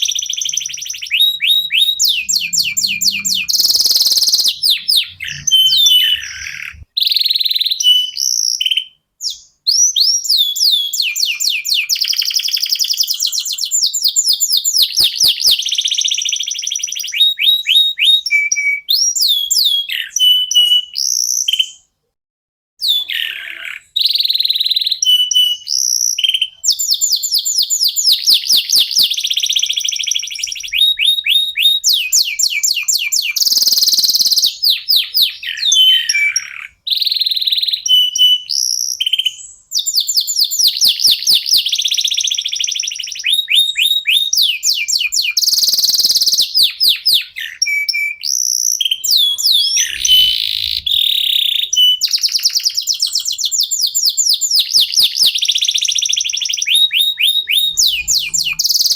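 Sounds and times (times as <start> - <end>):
canaries singing trills: 0.0 - 21.9, 22.8 - 58.9.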